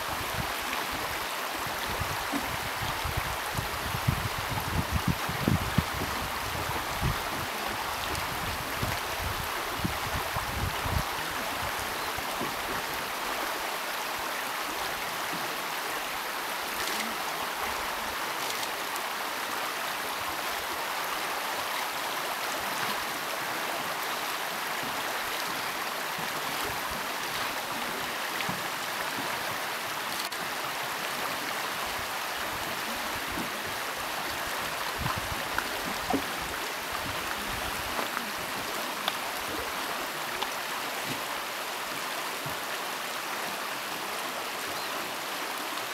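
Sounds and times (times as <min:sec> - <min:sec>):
river running over stones: 0:00.0 - 0:45.9.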